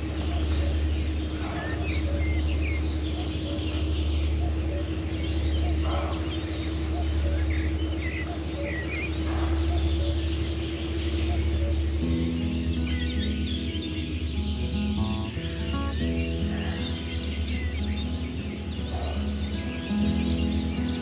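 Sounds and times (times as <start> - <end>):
birds chirping: 0.0 - 21.0
low drone: 0.0 - 21.0.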